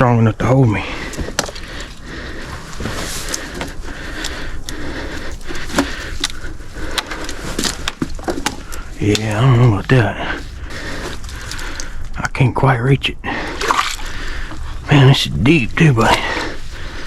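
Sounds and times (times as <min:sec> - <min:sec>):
brush and sticks snapping underfoot: 0:01.0 - 0:12.3, 0:13.5 - 0:15.1, 0:15.9 - 0:17.0.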